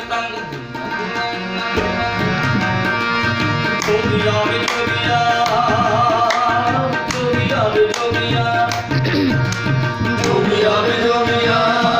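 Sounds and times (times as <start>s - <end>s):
harmonium held notes: 0.0s - 11.9s
tabla strokes: 0.8s - 11.9s.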